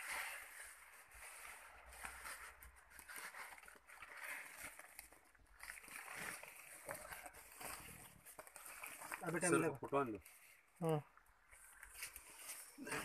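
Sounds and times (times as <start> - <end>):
plastic sack rustling: 0.0 - 13.0.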